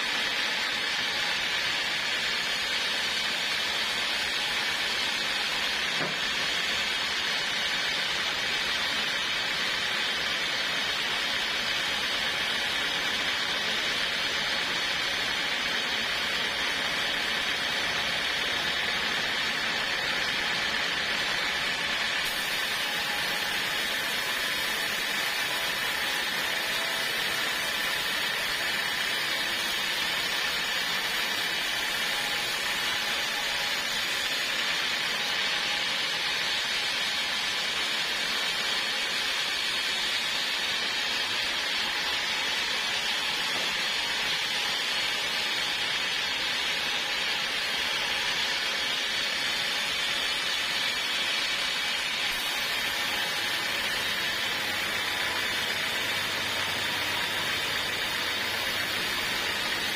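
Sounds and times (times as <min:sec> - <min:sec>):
saw cutting through log: 0:00.0 - 0:59.9.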